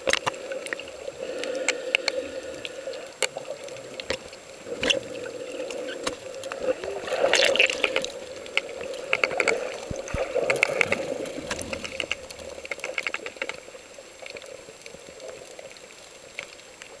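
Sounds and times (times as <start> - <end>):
clicks and crackles: 0.0 - 17.0
underwater water noise: 0.0 - 17.0.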